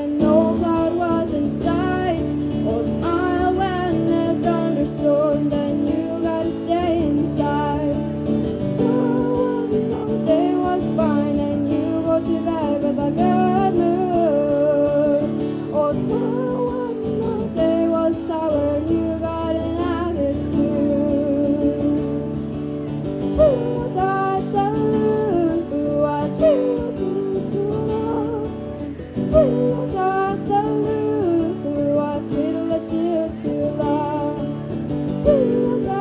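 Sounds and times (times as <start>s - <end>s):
acoustic guitar: 0.0s - 36.0s
woman singing: 0.0s - 36.0s.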